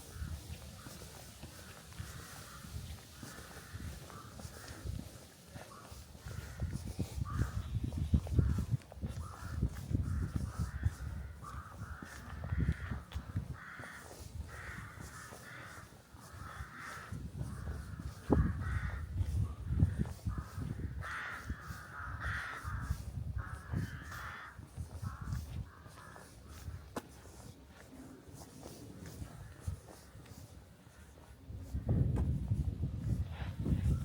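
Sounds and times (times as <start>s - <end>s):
crows cawing: 0.0s - 31.3s.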